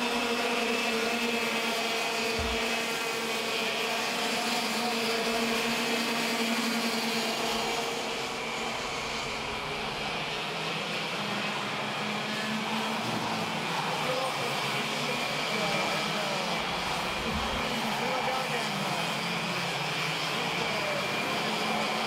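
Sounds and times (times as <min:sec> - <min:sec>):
go-kart engines droning: 0:00.0 - 0:22.0.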